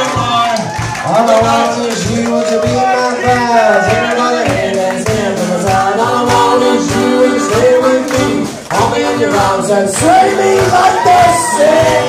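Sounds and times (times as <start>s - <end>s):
live band music: 0.0s - 12.0s
steady drum beat: 0.0s - 12.0s.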